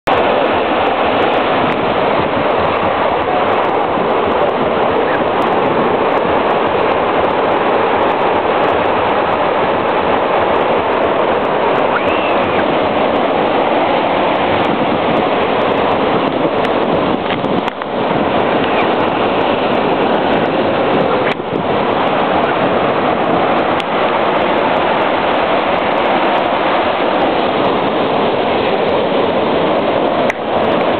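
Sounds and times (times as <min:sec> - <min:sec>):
surf on a beach: 0:00.0 - 0:30.9
wind: 0:00.0 - 0:30.9.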